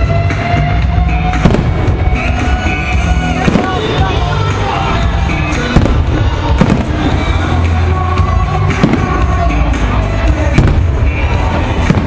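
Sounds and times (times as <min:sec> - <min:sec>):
fireworks bangs: 0:00.0 - 0:07.8, 0:08.6 - 0:12.0
loud music with heavy bass: 0:00.0 - 0:12.0.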